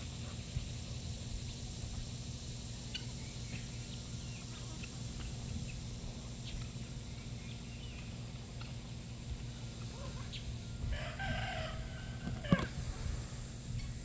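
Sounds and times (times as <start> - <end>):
small birds chirping: 0.0 - 12.6
high insect drone: 0.0 - 14.0.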